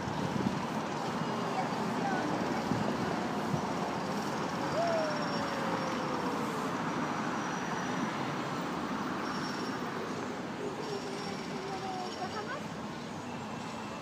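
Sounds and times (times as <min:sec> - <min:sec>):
city traffic hum: 0:00.0 - 0:14.0.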